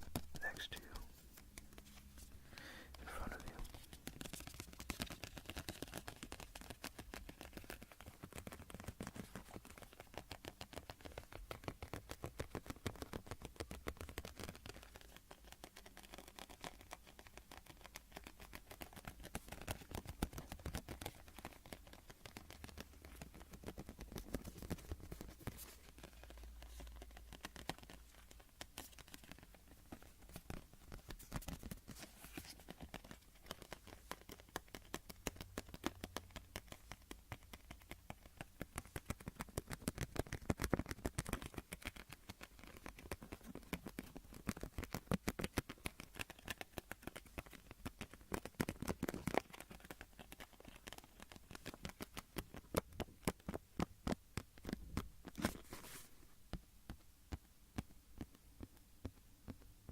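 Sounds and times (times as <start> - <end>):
close-miked scratching: 0.0 - 59.9.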